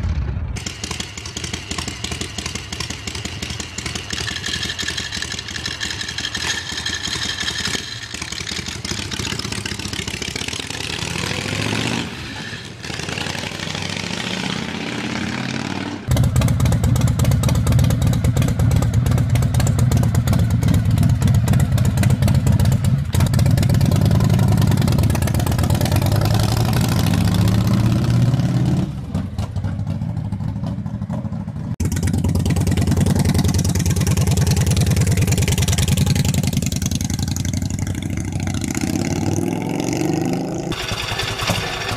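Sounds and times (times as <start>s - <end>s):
motorcycle engines running: 0.0s - 41.9s
motorcycle idling and revving: 0.0s - 41.9s.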